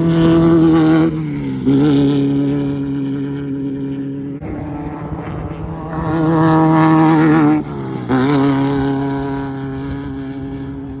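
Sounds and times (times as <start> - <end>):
race car engine running hard: 0.0 - 11.0.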